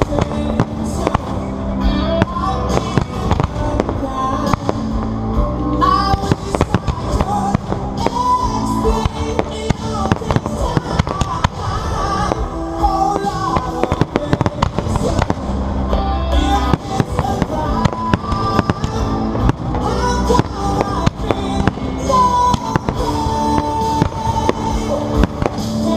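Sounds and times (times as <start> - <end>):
fireworks bangs and crackles: 0.0 - 25.9
loud music playing: 0.0 - 25.9.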